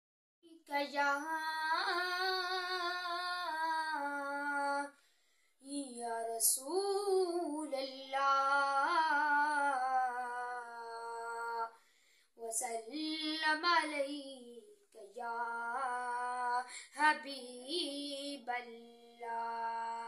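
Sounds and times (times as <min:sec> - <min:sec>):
boy singing unaccompanied: 0:00.5 - 0:04.9, 0:05.6 - 0:11.7, 0:12.4 - 0:20.0.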